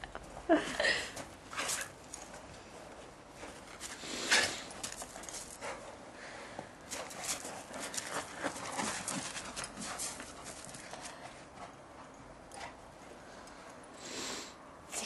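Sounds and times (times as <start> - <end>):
footsteps and paws crunching snow: 1.1 - 13.7.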